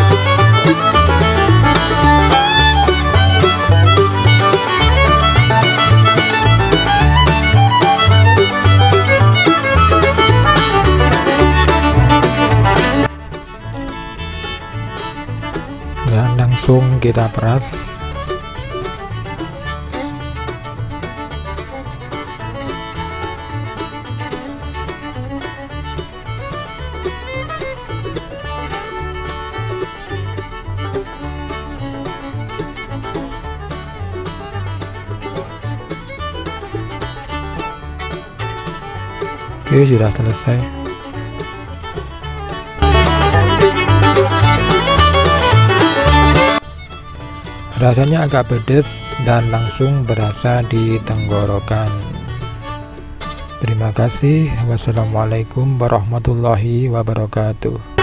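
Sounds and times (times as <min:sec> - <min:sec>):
steady bass beat: 0:00.0 - 0:46.7, 0:47.4 - 0:53.7
banjo: 0:00.0 - 0:58.0
fiddle: 0:00.0 - 0:58.0
lively instrumental music: 0:00.0 - 0:58.0.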